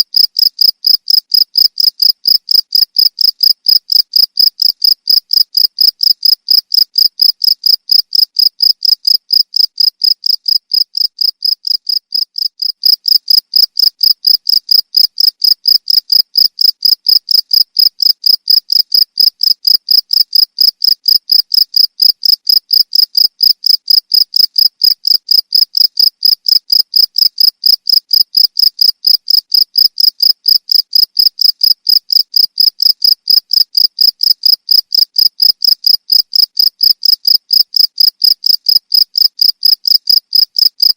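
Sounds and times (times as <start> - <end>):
cricket chirping: 0.1 - 40.9.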